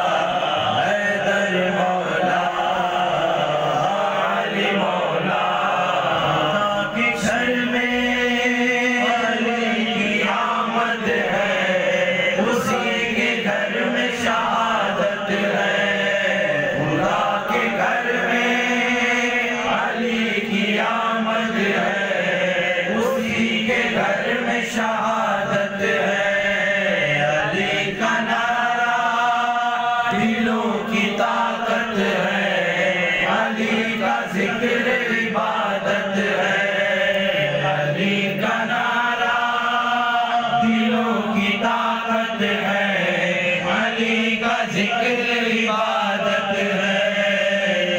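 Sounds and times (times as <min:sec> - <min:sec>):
men singing devotional verse: 0:00.0 - 0:47.9.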